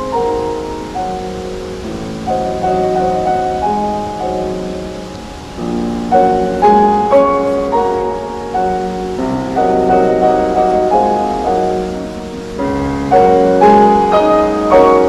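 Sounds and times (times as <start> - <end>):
faint rushing water: 0.0 - 15.0
slow piano music: 0.0 - 15.0.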